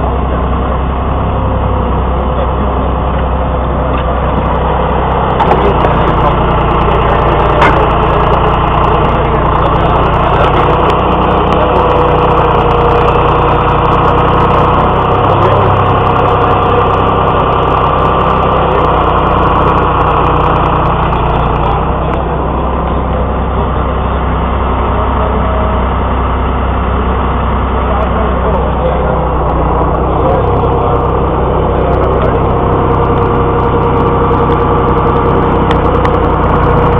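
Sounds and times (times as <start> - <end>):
heavy truck engine running: 0.0 - 36.9.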